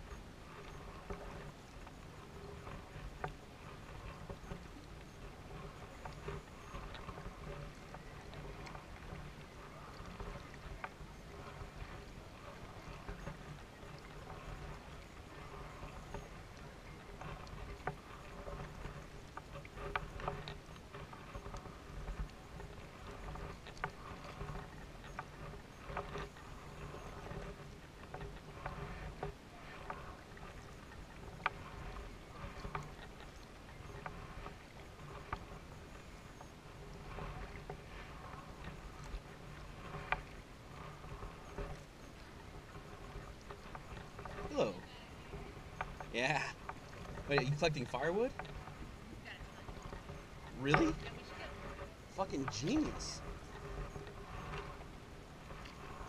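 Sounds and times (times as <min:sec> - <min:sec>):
paddle splashing in water: 0:00.0 - 0:56.0.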